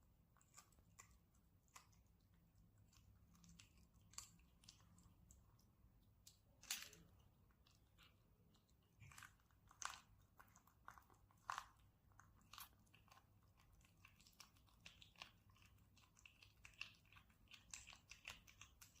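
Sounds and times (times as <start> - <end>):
kitten chewing crunchily: 0.0 - 19.0.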